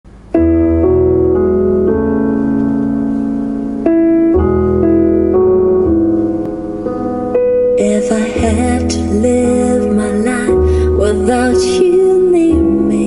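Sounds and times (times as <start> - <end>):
slow piano chords: 0.1 - 13.0.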